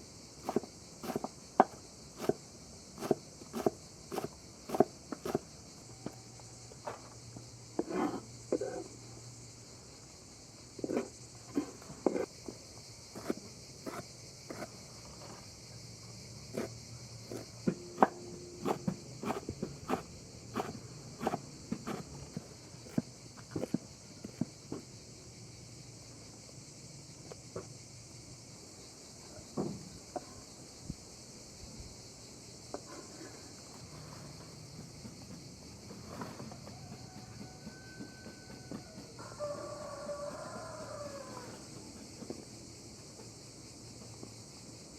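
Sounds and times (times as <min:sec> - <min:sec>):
crickets chirping: 0:00.0 - 0:44.9
high-pitched insect chorus: 0:00.0 - 0:44.9.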